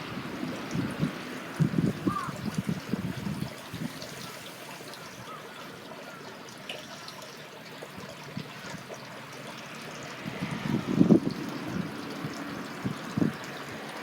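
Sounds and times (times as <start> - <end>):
water rushing in a canal: 0.0 - 14.0.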